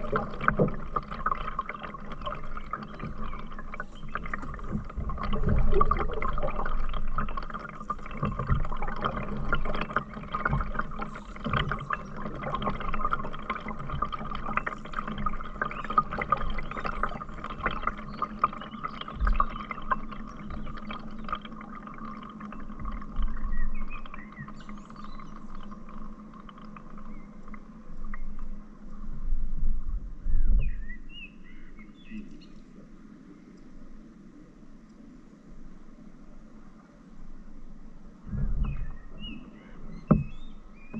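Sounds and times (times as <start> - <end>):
water trickling and splashing: 0.0 - 29.9, 30.6 - 40.9.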